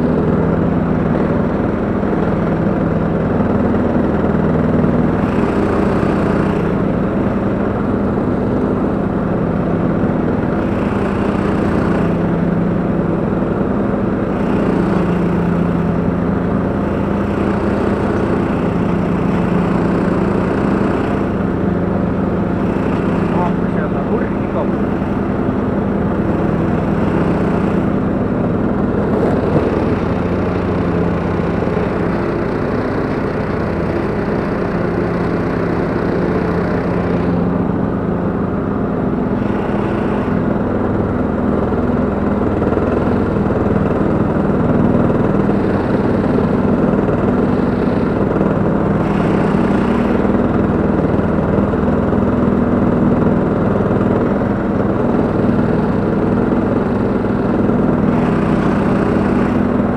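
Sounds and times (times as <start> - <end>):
flail mower cutting grass: 0.0 - 59.9
lawn tractor engine running: 0.0 - 59.9.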